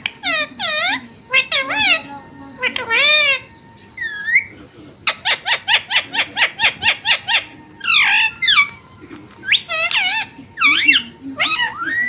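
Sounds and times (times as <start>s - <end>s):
parrot chirping rapidly: 0.0s - 12.0s
parrot squawking: 0.0s - 12.0s.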